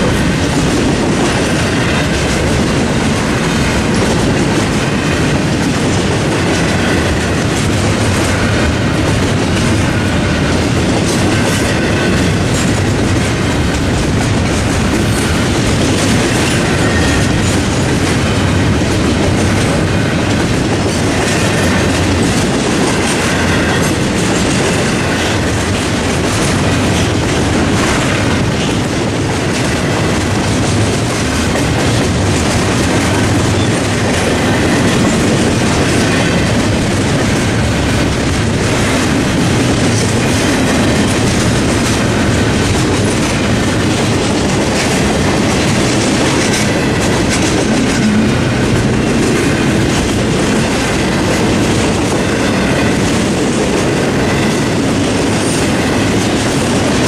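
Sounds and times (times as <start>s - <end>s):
freight train rumble: 0.0s - 57.0s
wheels clacking over rail joints: 0.0s - 57.0s.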